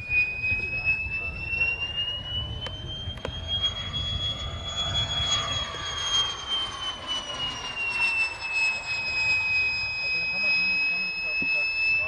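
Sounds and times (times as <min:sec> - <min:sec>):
model jet fan whine: 0:00.0 - 0:12.0.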